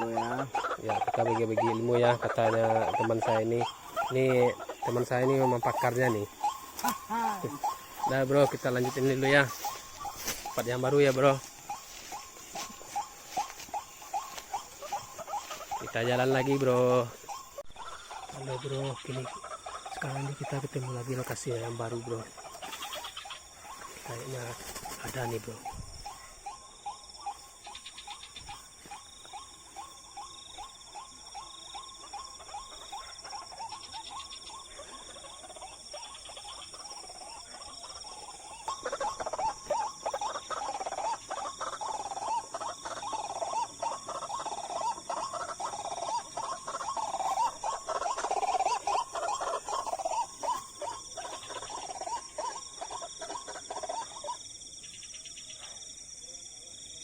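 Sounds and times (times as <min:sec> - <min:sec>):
croaking animal calls: 0:00.0 - 0:57.0
high-pitched insect chorus: 0:00.0 - 0:57.0.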